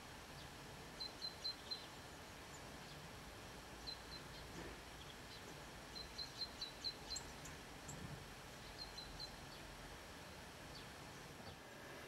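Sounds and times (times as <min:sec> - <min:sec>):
faint steady hiss: 0:00.0 - 0:12.0
small songbird chirping: 0:00.3 - 0:11.6.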